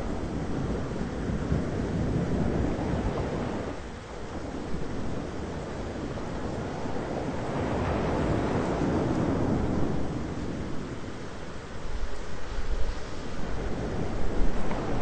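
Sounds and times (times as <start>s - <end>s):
low thunder rumble: 0.0s - 15.0s
wind and rain rushing: 0.0s - 15.0s.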